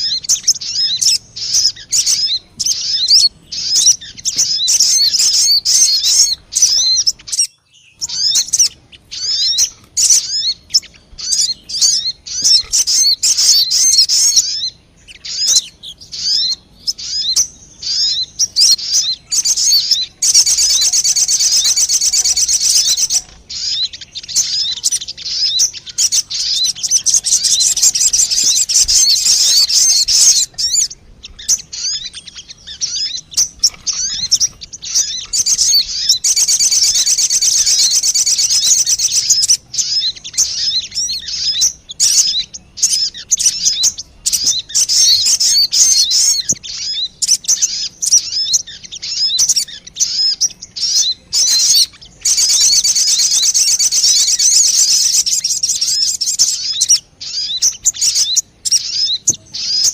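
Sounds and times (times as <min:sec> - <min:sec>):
bird chirping and warbling: 0:00.0 - 0:59.9.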